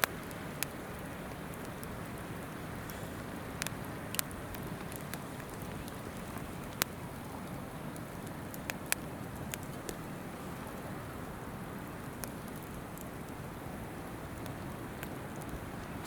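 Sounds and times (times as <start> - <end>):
river babbling: 0.0 - 16.0
wood fire crackling and popping: 0.0 - 16.0.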